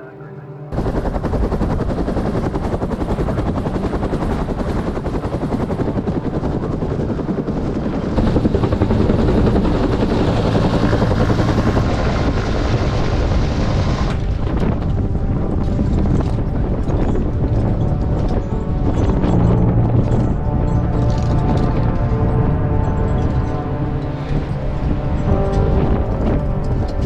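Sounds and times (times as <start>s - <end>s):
helicopter rotor chopping: 0.7s - 27.0s.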